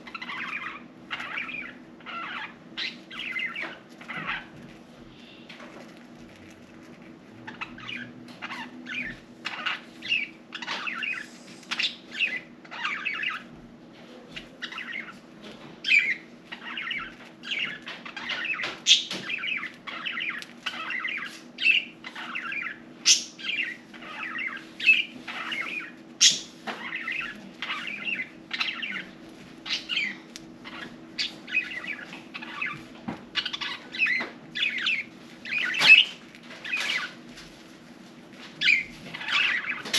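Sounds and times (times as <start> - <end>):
budgerigars chirping: 0.0 - 4.6, 7.4 - 13.6, 14.4 - 15.2, 15.8 - 37.2, 38.6 - 39.9
steady low hum: 0.0 - 39.9.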